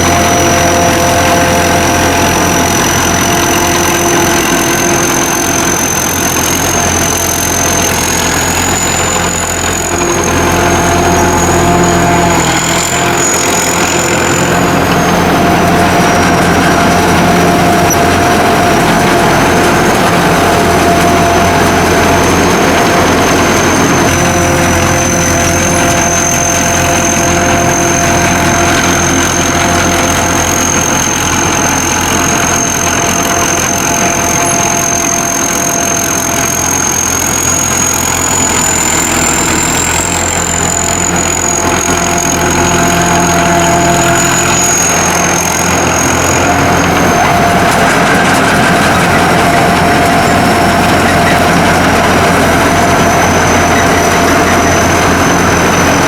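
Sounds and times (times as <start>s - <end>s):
combine harvester engine droning: 0.0s - 56.0s
high machinery whine: 0.0s - 56.0s.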